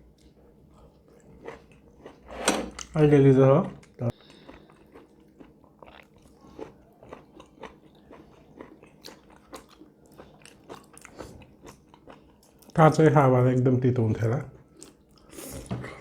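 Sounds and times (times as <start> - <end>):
person chewing: 0.0 - 3.0, 3.8 - 12.8, 14.6 - 15.7.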